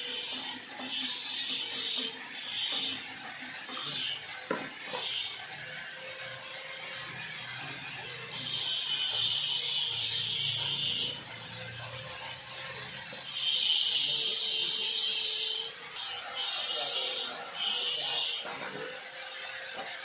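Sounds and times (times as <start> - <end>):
angle grinder grinding steel: 0.0 - 20.0.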